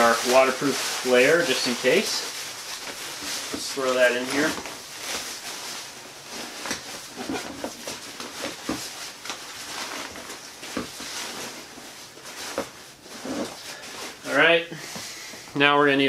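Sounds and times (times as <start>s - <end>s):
jacket rustling and crinkling: 0.0s - 14.6s
small knocks and scrapes: 0.2s - 14.2s.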